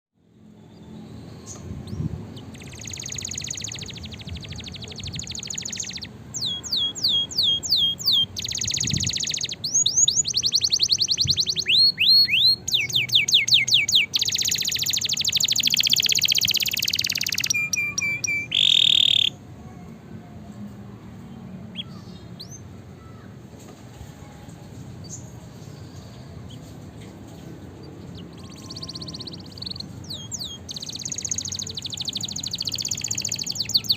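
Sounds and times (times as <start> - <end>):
canary singing trills: 0.6 - 19.4, 21.5 - 23.3, 25.0 - 33.9.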